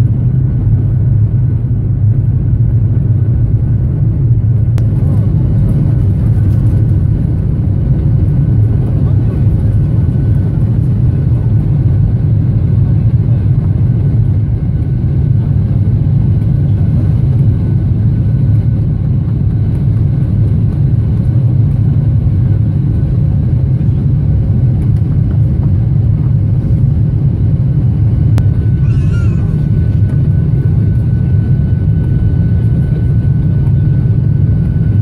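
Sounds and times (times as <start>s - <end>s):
jet engines at takeoff power: 0.0s - 35.0s.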